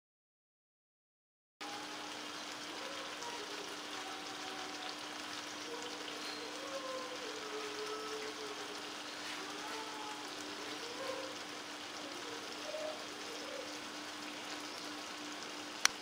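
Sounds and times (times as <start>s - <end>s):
beef sizzling in a wok: 1.6s - 16.0s.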